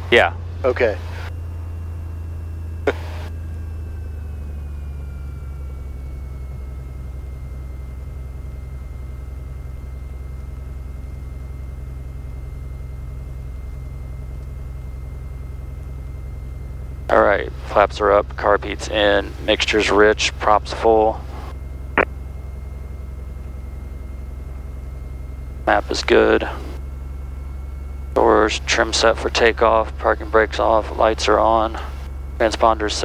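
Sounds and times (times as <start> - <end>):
piston aircraft engine droning: 0.0 - 33.0.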